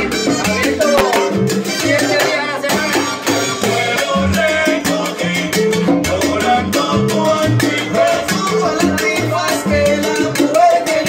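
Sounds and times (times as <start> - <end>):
bass line: 0.0 - 11.0
congas: 0.0 - 11.0
salsa band playing: 0.0 - 11.0.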